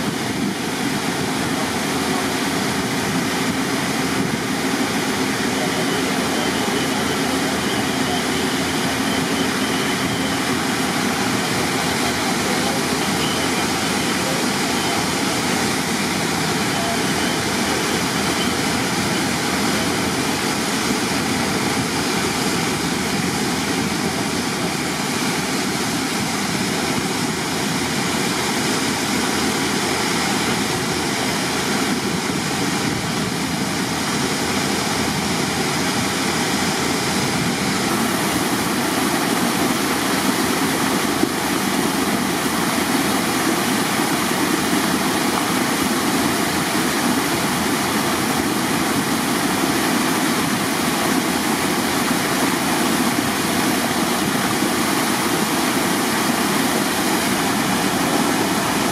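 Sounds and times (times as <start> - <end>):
pump engine running: 0.0 - 58.9
water jetting from hose: 0.0 - 58.9.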